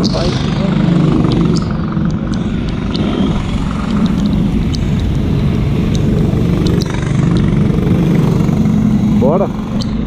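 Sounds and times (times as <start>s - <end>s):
racing kart engines droning: 0.0s - 10.0s.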